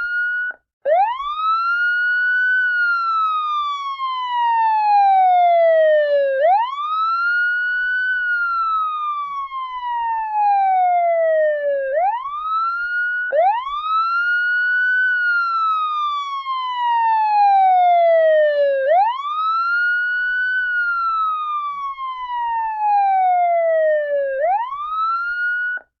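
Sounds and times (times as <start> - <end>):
police siren wailing: 0.0 - 25.9.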